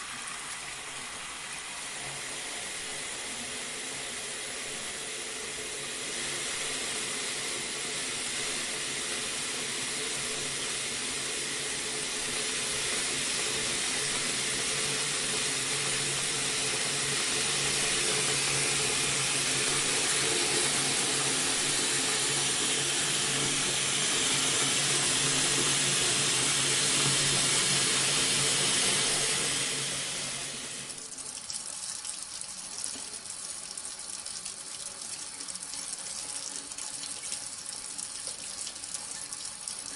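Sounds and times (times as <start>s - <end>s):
faucet water running into sink: 0.0s - 39.9s.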